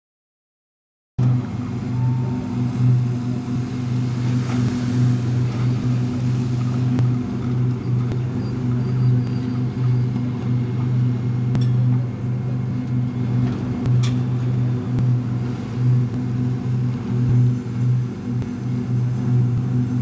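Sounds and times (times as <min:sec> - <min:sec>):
construction machine humming: 0:01.2 - 0:20.0.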